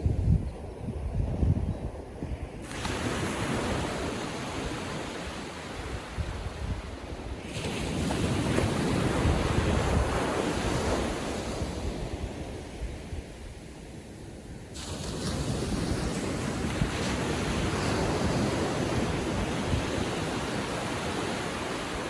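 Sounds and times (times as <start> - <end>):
wind buffeting microphone: 0.0 - 22.0
small waves breaking on sand: 2.2 - 22.0.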